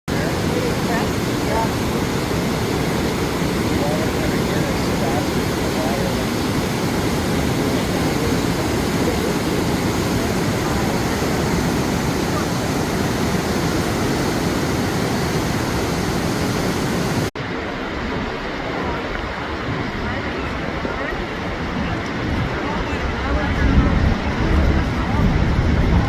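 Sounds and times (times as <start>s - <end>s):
waterfall roaring: 0.1s - 26.0s.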